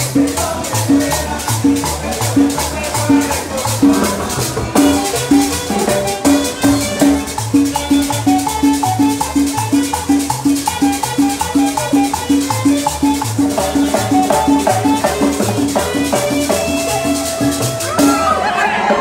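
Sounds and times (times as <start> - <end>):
fast percussion strokes: 0.0 - 19.0
live band playing cumbia: 0.0 - 19.0.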